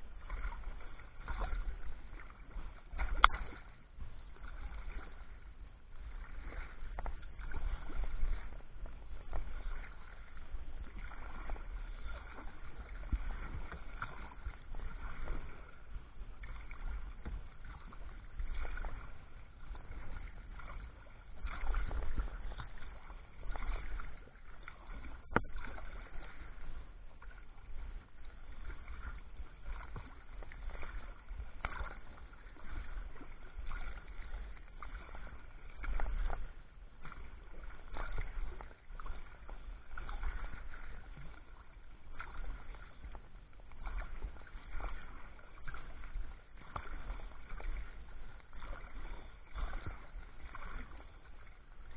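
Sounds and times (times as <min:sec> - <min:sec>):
paddle splashing in water: 0:00.0 - 0:51.9
steady low rumble: 0:00.0 - 0:51.9.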